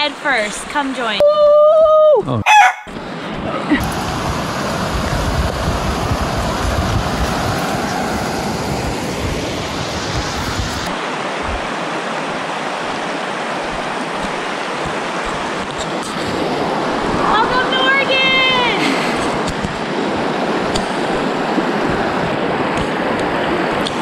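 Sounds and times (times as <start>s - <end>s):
wind rumbling on microphone: 1.1s - 24.0s
river water rushing over rapids: 3.0s - 24.0s.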